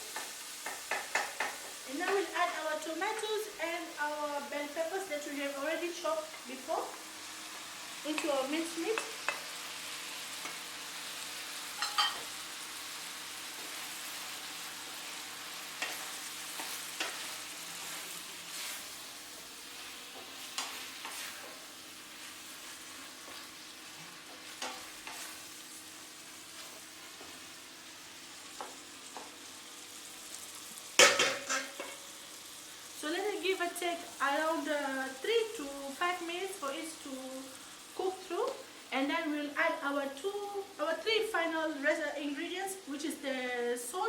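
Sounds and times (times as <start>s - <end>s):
meat sizzling in a pot: 0.0s - 44.0s.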